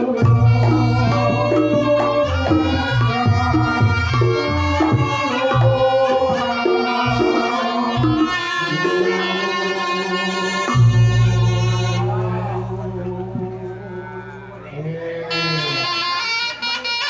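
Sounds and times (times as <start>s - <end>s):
shawm reedy melody: 0.0s - 17.0s.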